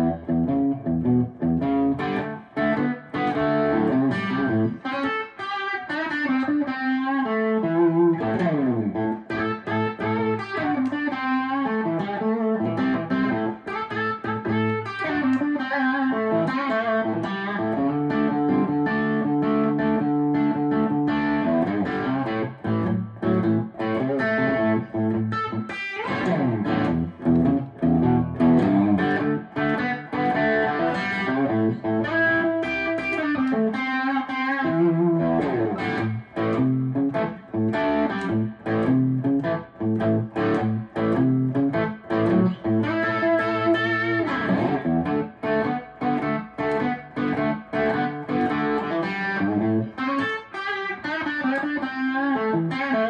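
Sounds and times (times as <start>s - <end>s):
electric guitar playing: 0.0s - 53.0s.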